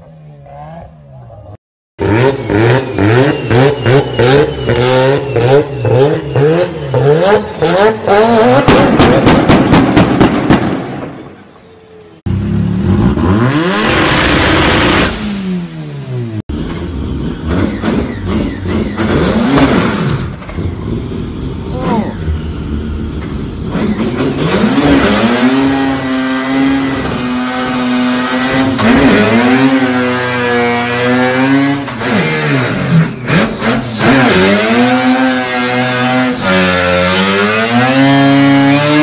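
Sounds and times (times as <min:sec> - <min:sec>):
car engines revving hard: 0:02.0 - 0:10.6, 0:12.2 - 0:39.0.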